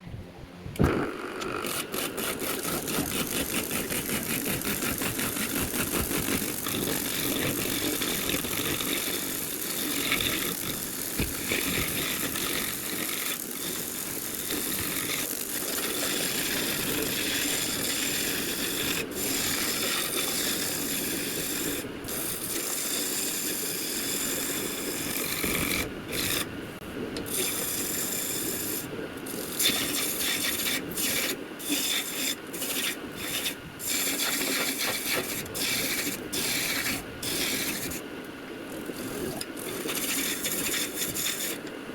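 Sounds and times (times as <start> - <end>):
wood scraping on lathe: 0.8 - 26.6, 27.2 - 38.0, 38.8 - 41.7.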